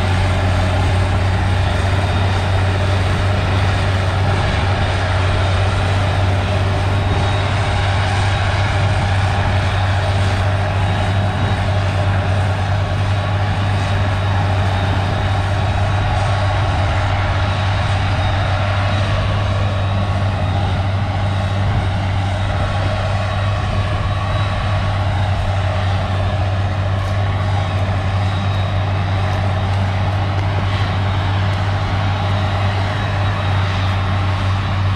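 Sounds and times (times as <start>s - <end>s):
heavy machinery engine drone: 0.0s - 34.9s.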